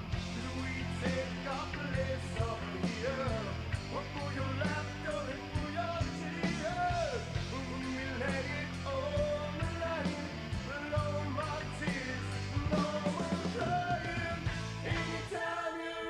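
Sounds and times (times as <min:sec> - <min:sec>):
rock music with singer: 0:00.0 - 0:16.0.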